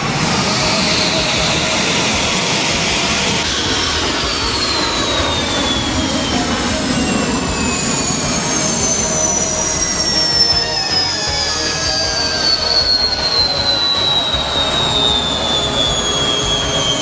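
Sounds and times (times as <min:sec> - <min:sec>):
jet engine sound effect: 0:00.0 - 0:17.0.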